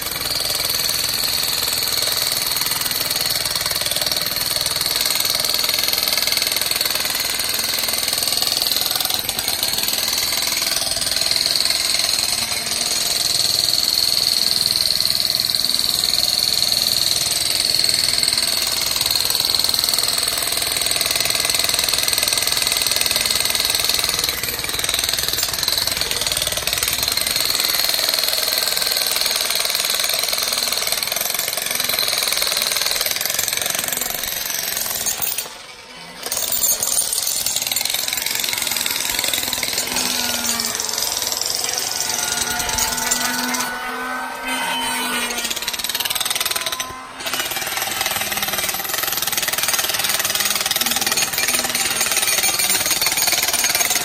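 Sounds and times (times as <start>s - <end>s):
jackhammer breaking rocky ground: 0.0s - 43.7s, 45.4s - 54.0s.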